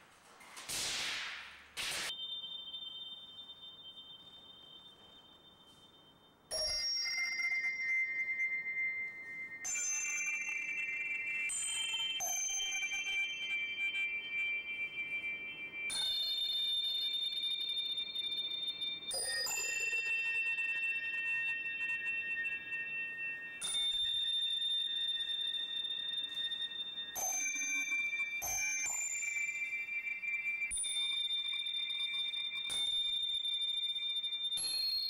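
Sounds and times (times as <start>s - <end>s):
high bell-like ringing tones: 2.1s - 35.0s.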